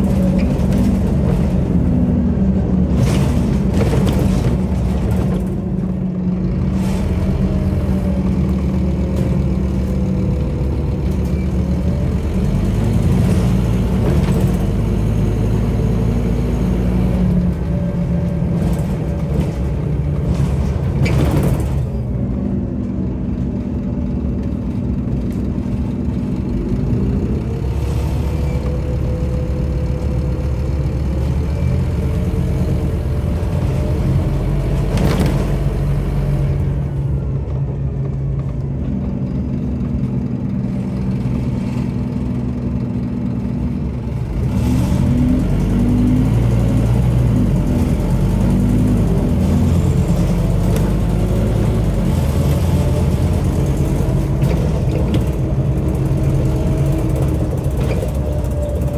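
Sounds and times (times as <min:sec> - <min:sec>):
bus diesel engine hum: 0:00.0 - 0:58.9.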